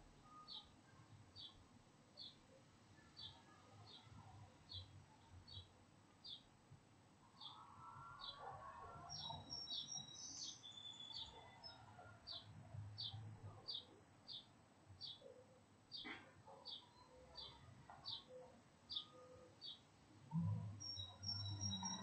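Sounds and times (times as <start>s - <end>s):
small birds chirping: 2.2s - 6.5s, 7.4s - 19.9s, 20.8s - 22.0s.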